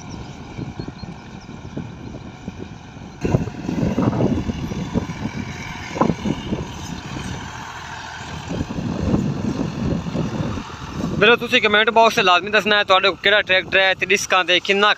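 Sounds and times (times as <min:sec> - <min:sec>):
tractor diesel engine running: 0:00.0 - 0:14.9
wind buffeting microphone: 0:00.0 - 0:14.9.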